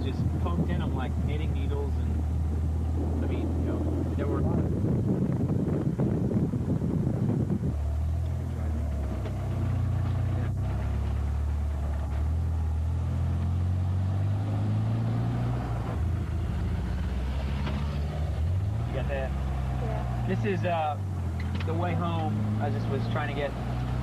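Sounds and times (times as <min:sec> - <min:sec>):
car engine hum from inside cabin: 0:00.0 - 0:24.0.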